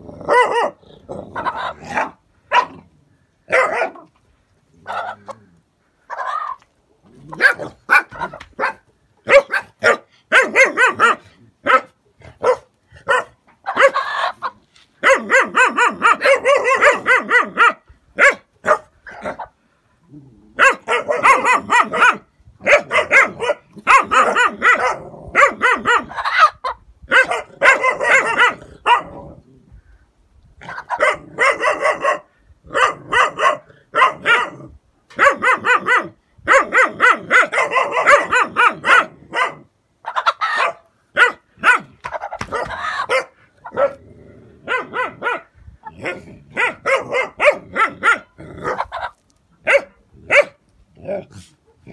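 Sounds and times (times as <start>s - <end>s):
puppies barking: 0.2s - 2.8s, 3.5s - 4.1s, 7.3s - 19.5s, 20.6s - 29.1s, 30.7s - 34.6s, 35.2s - 44.0s, 44.6s - 50.6s.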